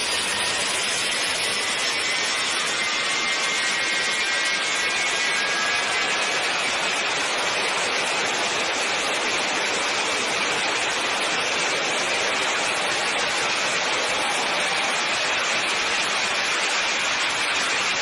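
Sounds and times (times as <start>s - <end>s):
faint high whine: 0.0s - 18.0s
jet engine running: 0.0s - 18.0s.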